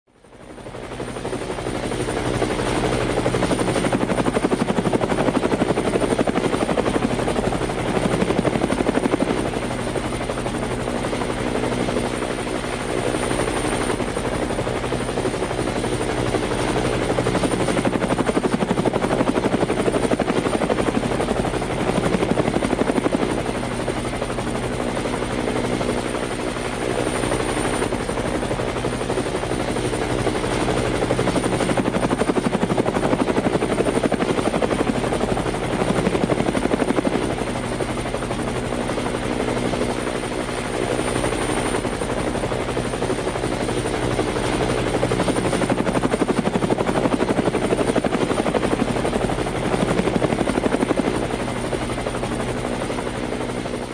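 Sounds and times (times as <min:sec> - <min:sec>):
helicopter rotor and engine drone: 0:00.1 - 0:53.9.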